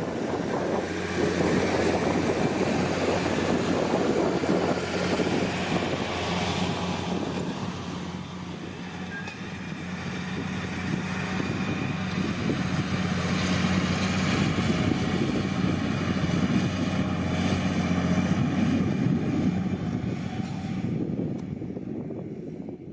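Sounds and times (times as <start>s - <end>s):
tractor diesel engine droning: 0.0s - 22.9s.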